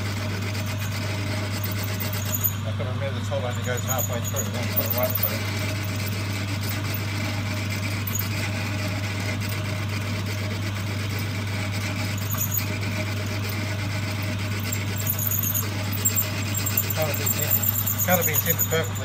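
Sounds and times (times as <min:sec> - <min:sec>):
drill boring into steel: 0:00.0 - 0:19.0
lathe motor hum: 0:00.0 - 0:19.0.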